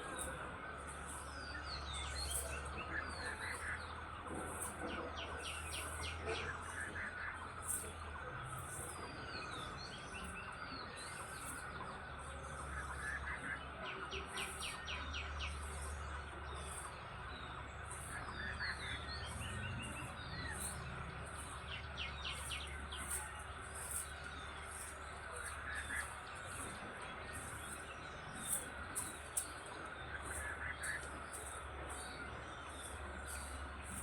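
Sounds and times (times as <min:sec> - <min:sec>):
birds chirping and singing: 0:00.0 - 0:34.0
steady low rumble: 0:00.0 - 0:34.0.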